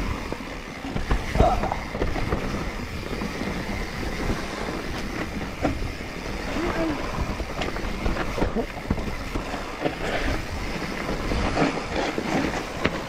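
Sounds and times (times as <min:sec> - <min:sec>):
bike knocking and clattering: 0:00.0 - 0:13.0
tyres rolling on dirt: 0:00.0 - 0:13.0.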